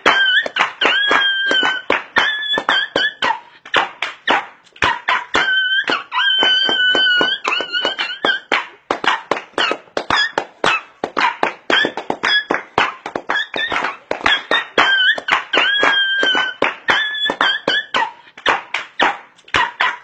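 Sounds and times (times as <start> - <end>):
fast percussive beat of taps: 0.0 - 20.0.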